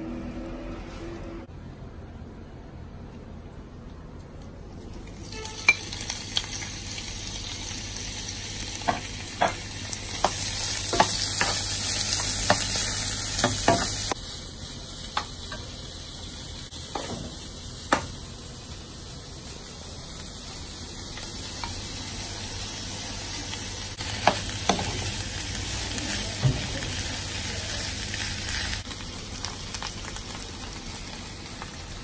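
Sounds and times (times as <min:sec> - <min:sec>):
onion sizzling in frying pan: 0:04.9 - 0:32.0.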